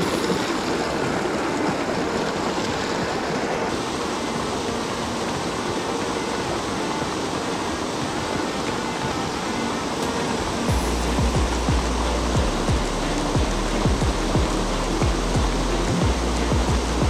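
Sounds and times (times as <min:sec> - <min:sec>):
creek water rushing over waterfall: 0:00.0 - 0:17.0.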